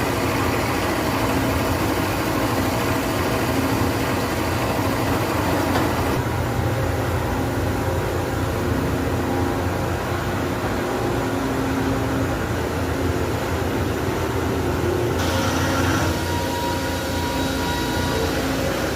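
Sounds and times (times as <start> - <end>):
machine humming: 0.0 - 18.9.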